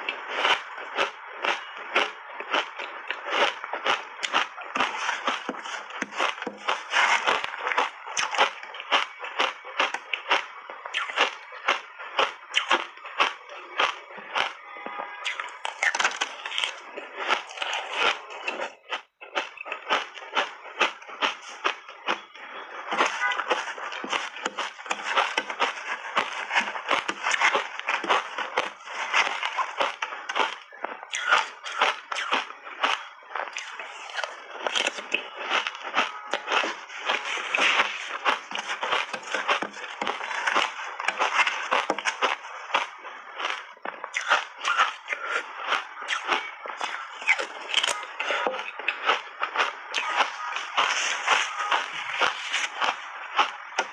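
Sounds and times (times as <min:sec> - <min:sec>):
chewing crunchy shaved ice: 0:00.0 - 0:53.9.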